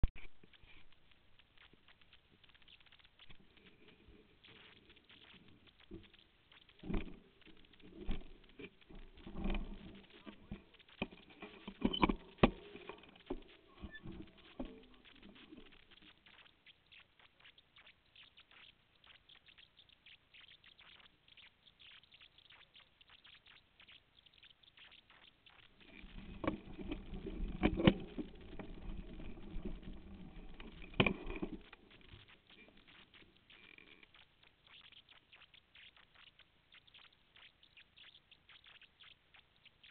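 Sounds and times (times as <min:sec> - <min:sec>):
camera rumbling over rough ground: 0:00.0 - 0:17.5, 0:19.1 - 0:38.7.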